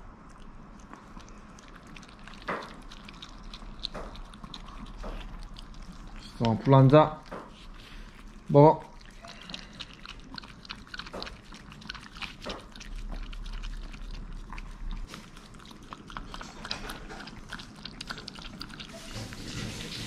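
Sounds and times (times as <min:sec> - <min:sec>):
dog licking: 0:00.1 - 0:20.0.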